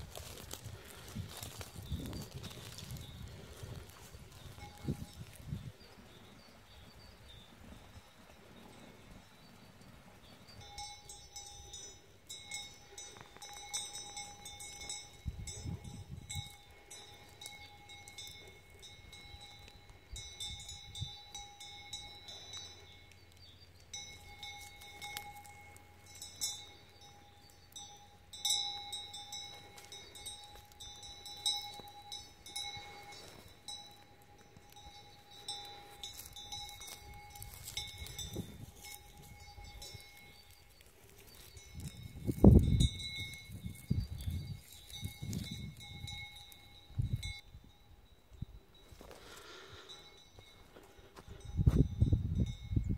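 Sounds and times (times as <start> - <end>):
cowbell clanking: 0.2 - 5.4, 10.4 - 47.9.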